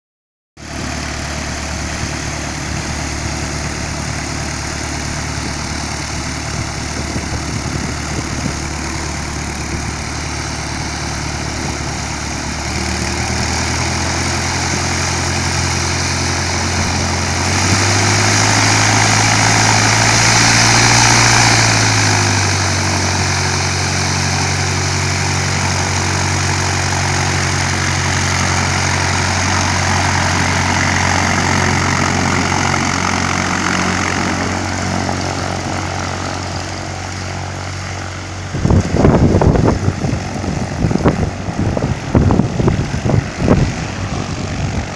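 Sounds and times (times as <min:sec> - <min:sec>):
propeller airplane engine passing: 0:00.6 - 0:44.9.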